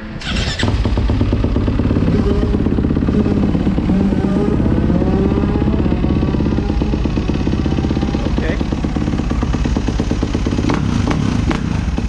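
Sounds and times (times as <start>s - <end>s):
motorcycle engine idling: 0.2s - 12.0s.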